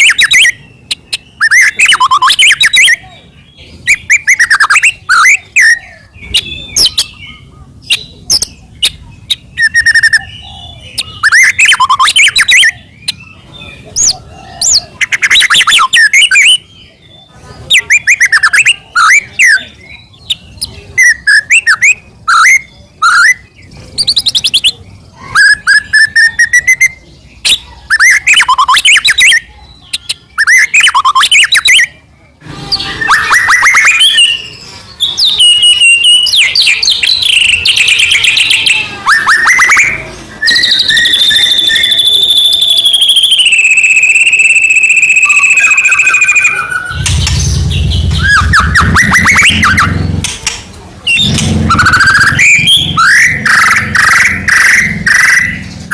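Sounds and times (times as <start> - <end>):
songbird singing trills and whistles: 0.0 - 55.9.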